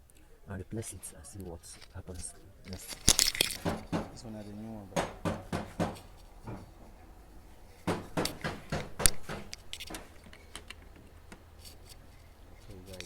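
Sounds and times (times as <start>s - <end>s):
small parts clicking and knocking: 1.3s - 6.8s, 7.7s - 13.0s.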